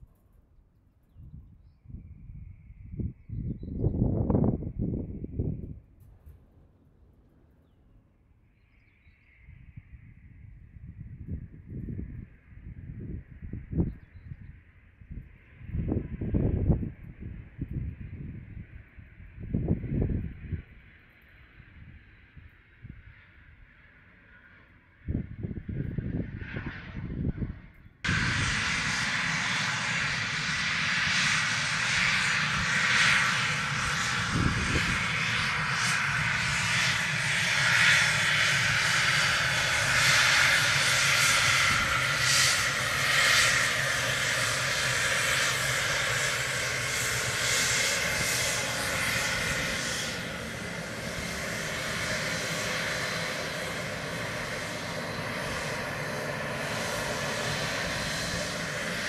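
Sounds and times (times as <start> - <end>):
jet engine whine and rush: 1.1 - 6.3, 8.4 - 59.0.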